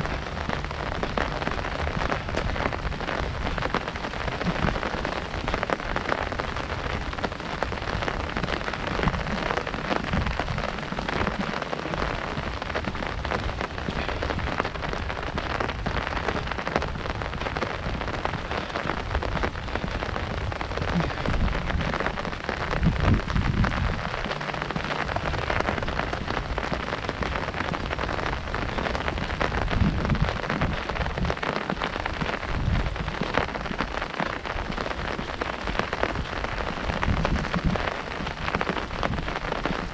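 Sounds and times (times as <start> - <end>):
low rumbles: 0.0 - 39.9
rain drumming on umbrella: 0.0 - 39.9.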